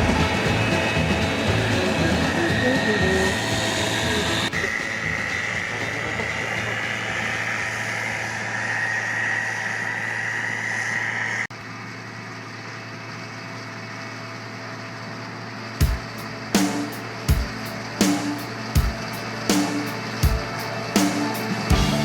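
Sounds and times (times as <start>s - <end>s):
harvest machinery engine running: 0.0s - 10.2s, 11.2s - 22.0s.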